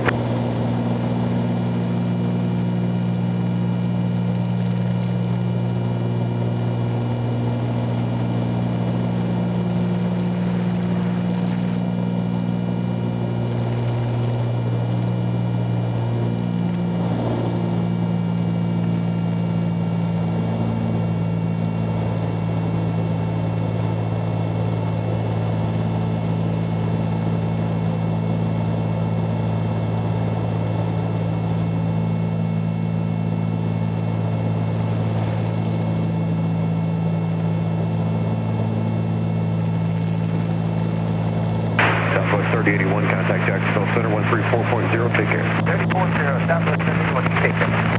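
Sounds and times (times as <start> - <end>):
airplane engines droning: 0.0 - 47.9.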